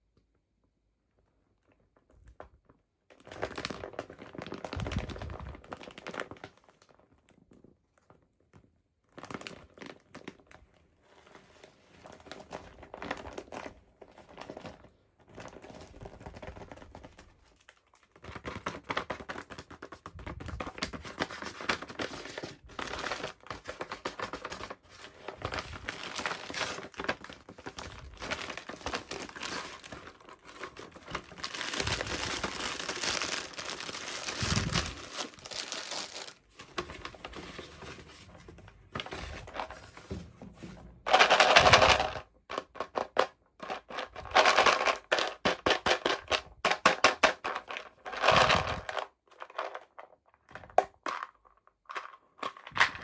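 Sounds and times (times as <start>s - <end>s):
plastic packaging crinkling and tearing: 2.6s - 10.7s, 12.1s - 40.2s, 41.0s - 49.9s.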